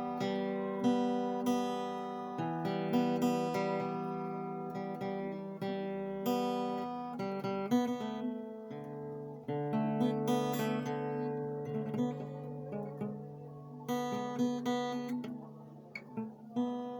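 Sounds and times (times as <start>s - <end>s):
acoustic guitar chords: 0.0s - 16.9s.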